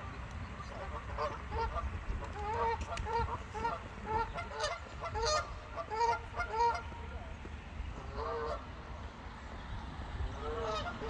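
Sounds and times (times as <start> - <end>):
geese honking: 0.0 - 7.3, 7.9 - 8.9, 10.3 - 11.0.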